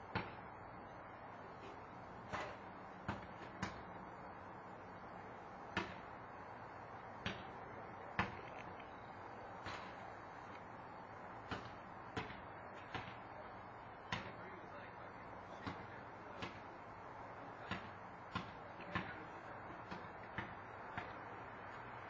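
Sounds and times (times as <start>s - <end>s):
faint steady background hum: 0.0s - 22.0s.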